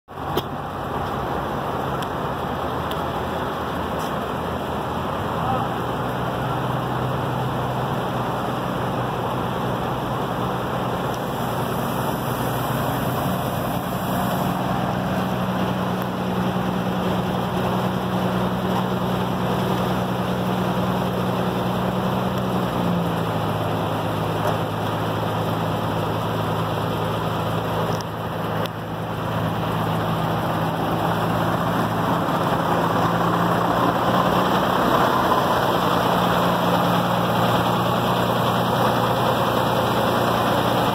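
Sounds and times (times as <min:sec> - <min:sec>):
diesel truck engine running: 0:00.1 - 0:40.9
steady rushing noise: 0:00.1 - 0:40.9.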